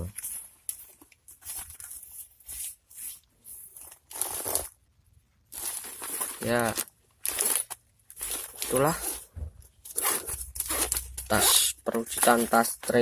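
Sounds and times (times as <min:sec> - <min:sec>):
nylon bag rustling: 0:00.0 - 0:04.8, 0:05.5 - 0:13.0.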